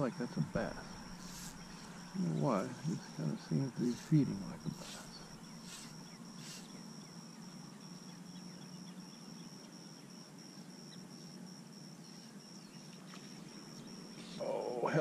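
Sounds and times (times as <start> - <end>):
faint low hum: 0.0 - 15.0
insects chirping: 0.0 - 15.0.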